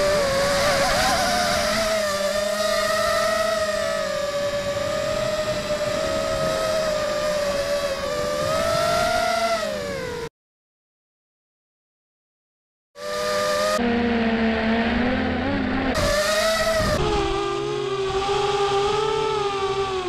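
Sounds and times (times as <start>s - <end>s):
quadcopter motors buzzing whine: 0.0s - 10.3s, 13.0s - 20.0s.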